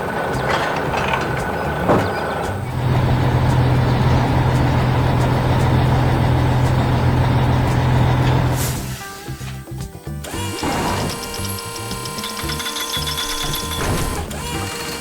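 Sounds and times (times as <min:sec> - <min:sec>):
heavy machine engine running: 0:00.0 - 0:09.1, 0:10.2 - 0:15.0.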